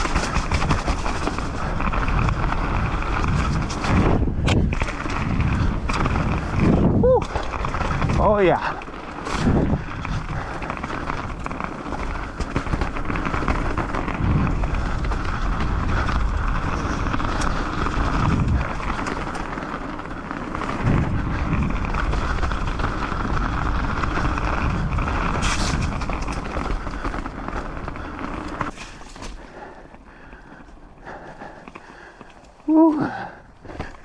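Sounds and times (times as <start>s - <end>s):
bike rattling and clicking: 0.0s - 34.0s
bike tyres on dirt trail: 0.0s - 34.0s.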